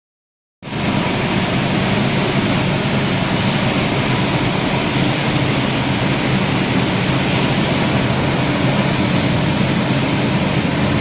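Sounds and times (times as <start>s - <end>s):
machinery hum and rush: 0.6s - 11.0s
thin high whine: 0.6s - 11.0s.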